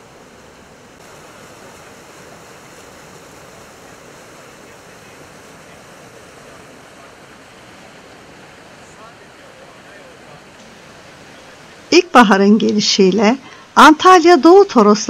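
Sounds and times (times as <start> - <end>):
stream rushing over rocks: 0.0 - 14.2.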